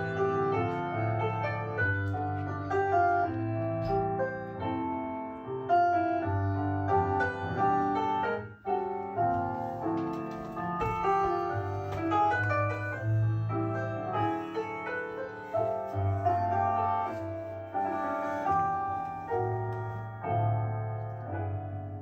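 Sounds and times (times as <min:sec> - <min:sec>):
slow solo piano: 0:00.0 - 0:22.0.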